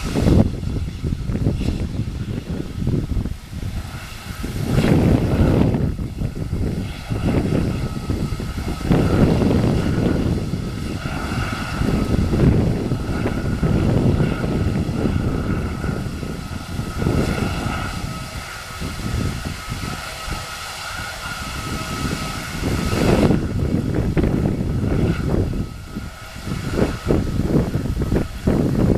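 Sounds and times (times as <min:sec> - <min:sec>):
jet engines whining: 0:00.0 - 0:28.9.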